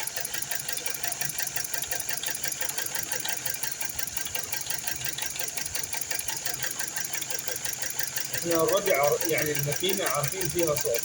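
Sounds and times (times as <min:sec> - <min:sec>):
car engine idling with ticking: 0:00.0 - 0:11.0.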